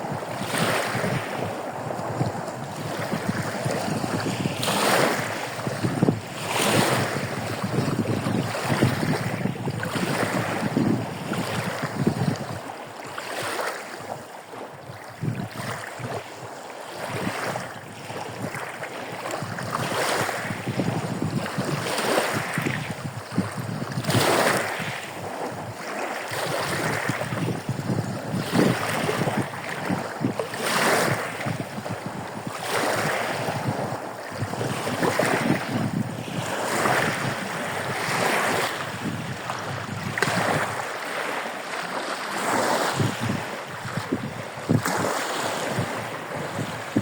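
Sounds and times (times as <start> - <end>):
waves washing onto shore: 0.0 - 47.0.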